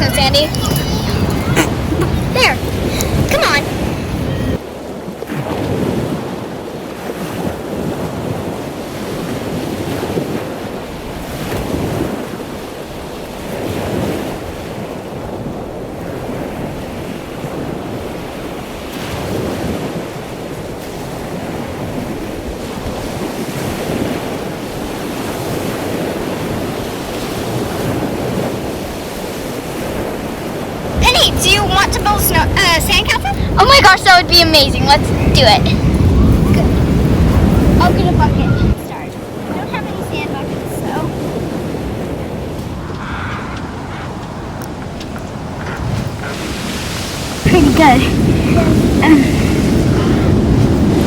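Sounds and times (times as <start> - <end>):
ocean surf washing in: 0.0 - 51.0
wind buffeting microphone: 0.0 - 51.0.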